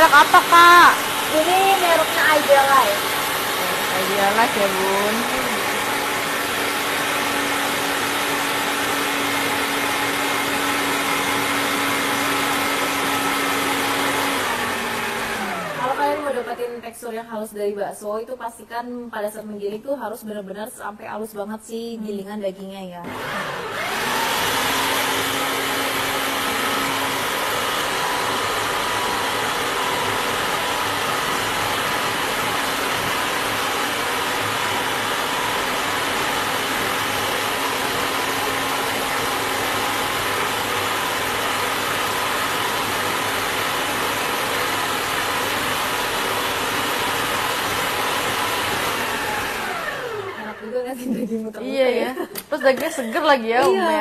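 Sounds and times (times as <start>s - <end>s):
food processor motor grinding: 0.0s - 16.7s, 23.0s - 50.8s.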